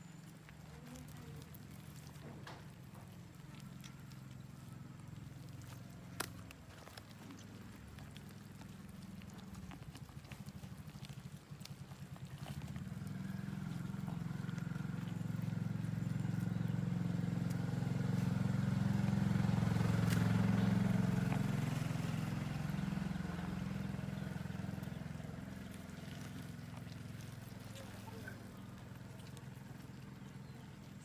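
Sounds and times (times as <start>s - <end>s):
small engine humming: 0.0s - 31.0s.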